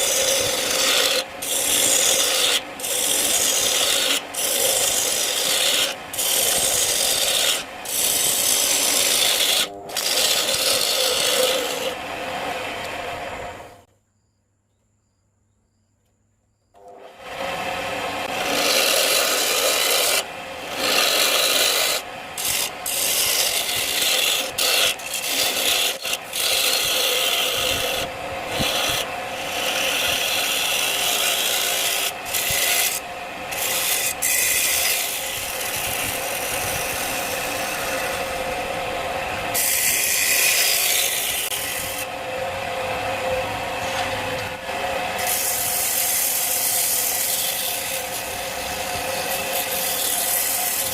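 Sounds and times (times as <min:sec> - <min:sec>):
faint lathe hum: 0:00.0 - 0:13.9, 0:16.8 - 0:50.9
tool scraping spinning wood: 0:00.0 - 0:13.9, 0:16.8 - 0:50.9.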